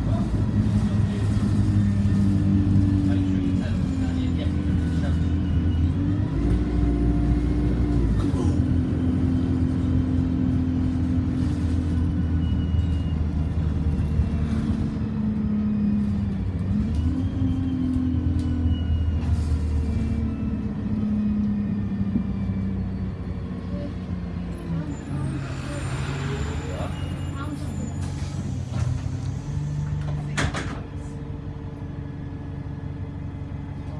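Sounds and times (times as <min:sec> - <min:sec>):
bus engine droning: 0:00.0 - 0:33.9.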